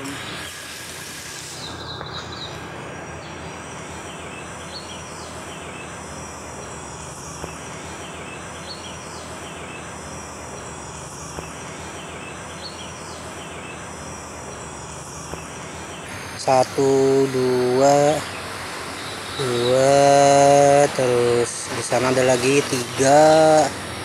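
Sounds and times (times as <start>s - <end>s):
faint chirps: 0.0s - 23.8s
constant hiss: 0.0s - 24.0s
insect chorus: 0.0s - 24.0s.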